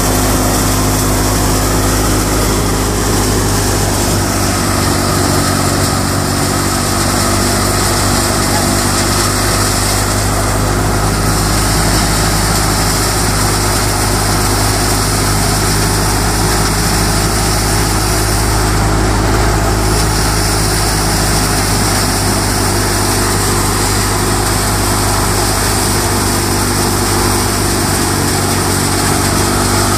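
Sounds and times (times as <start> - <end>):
tractor and thresher running: 0.0 - 29.9.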